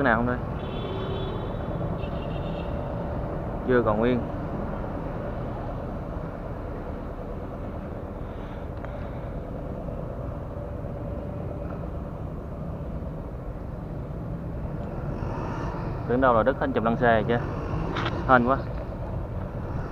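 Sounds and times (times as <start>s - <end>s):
low rumble of motor traffic: 0.0s - 19.9s.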